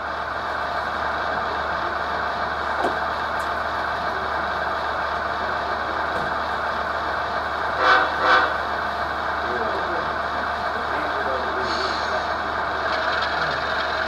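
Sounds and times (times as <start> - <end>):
model locomotive diesel engine sound: 0.0 - 14.0.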